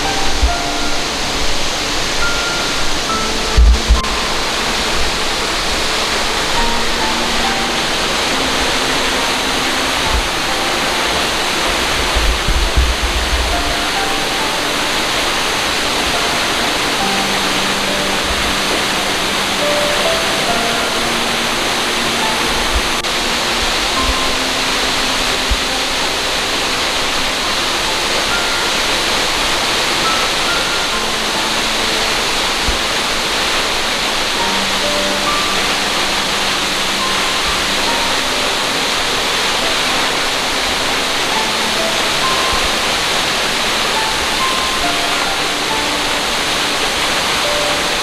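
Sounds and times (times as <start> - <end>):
soft background music: 0.0 - 48.0
waterfall roaring: 0.0 - 48.0.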